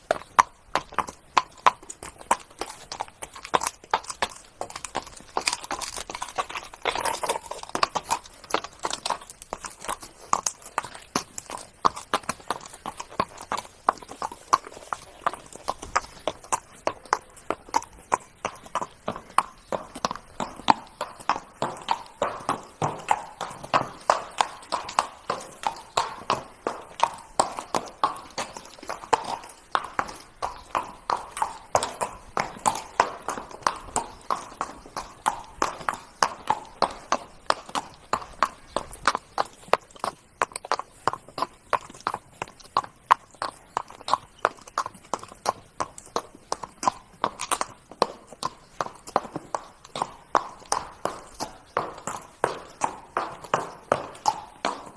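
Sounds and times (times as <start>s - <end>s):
horse hooves trotting: 0.0s - 54.9s.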